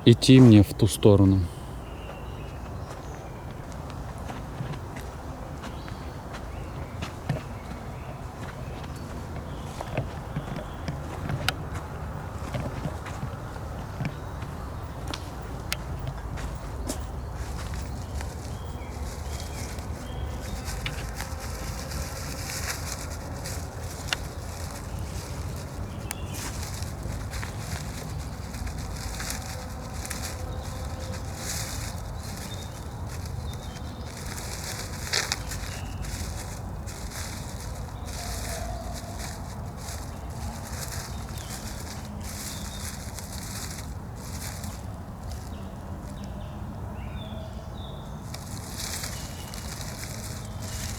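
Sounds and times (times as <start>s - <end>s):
footsteps snapping twigs: 5.7s - 46.4s, 48.2s - 50.9s.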